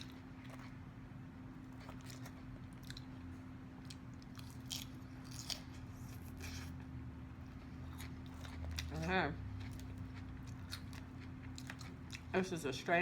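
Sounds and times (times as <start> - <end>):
person chewing crunchy salad: 0.0 - 12.4
steady low hum: 0.0 - 13.0.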